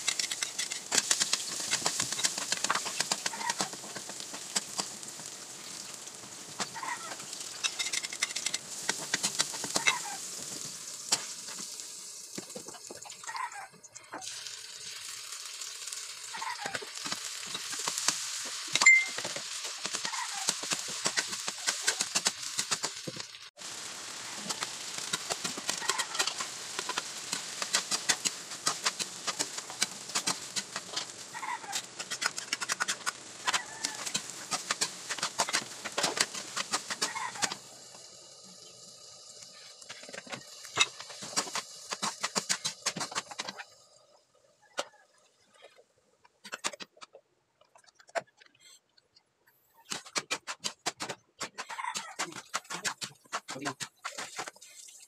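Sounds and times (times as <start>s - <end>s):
food sizzling in oil in a wok: 0.0s - 13.6s, 14.2s - 44.8s.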